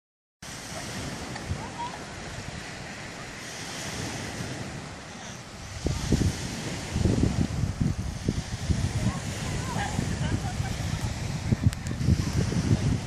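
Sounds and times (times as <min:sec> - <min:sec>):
waves washing onto beach: 0:00.4 - 0:13.0
wind buffeting microphone: 0:00.4 - 0:13.0.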